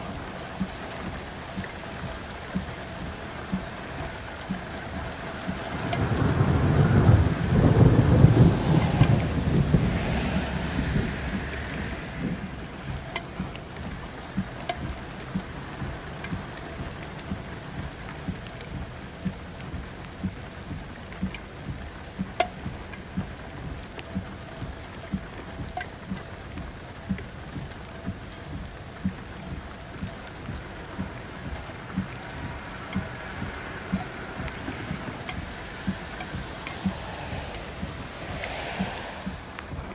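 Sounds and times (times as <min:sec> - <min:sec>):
drops ticking on hard surface: 0:00.0 - 0:39.9
heavy rain: 0:00.0 - 0:39.9
thunder rumble: 0:00.0 - 0:39.9.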